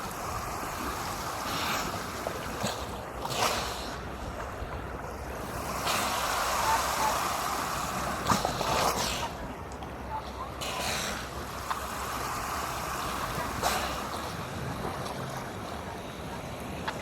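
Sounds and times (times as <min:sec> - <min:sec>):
seals snoring: 0:00.0 - 0:17.0.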